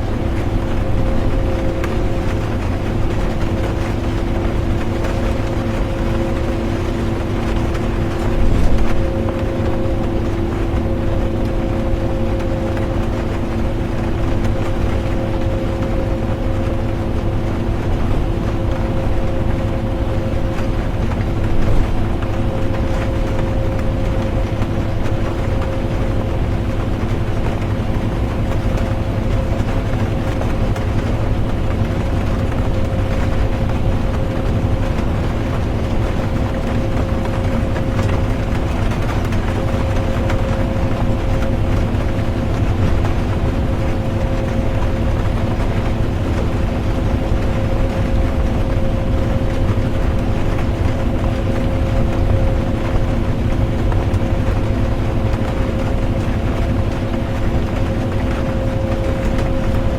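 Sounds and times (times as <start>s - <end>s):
bus engine and road rumble: 0.0s - 59.9s
constant hum: 0.0s - 59.9s.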